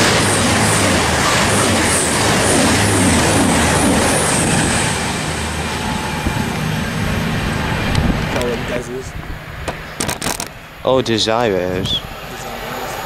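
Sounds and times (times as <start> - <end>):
wheels rushing on rail: 0.0 - 10.9
passenger train passing at speed: 0.0 - 13.0.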